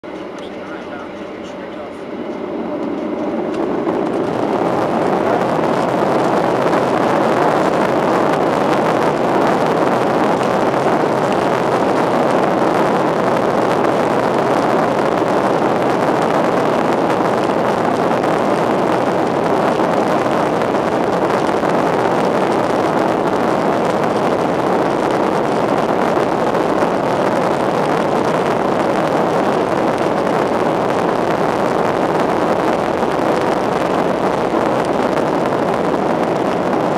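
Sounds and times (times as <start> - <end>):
jet engines spooling up: 0.0 - 36.9
takeoff roll rushing noise: 0.0 - 36.9.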